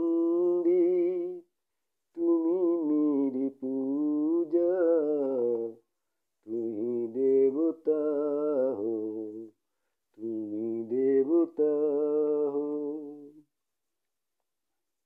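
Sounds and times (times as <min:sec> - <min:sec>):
man singing long held notes: 0:00.0 - 0:01.5, 0:02.1 - 0:05.8, 0:06.5 - 0:13.4.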